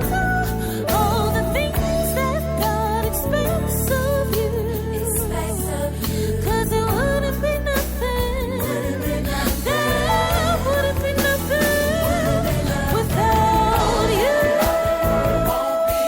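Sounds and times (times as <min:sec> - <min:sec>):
gospel song with bass and drums: 0:00.0 - 0:16.0.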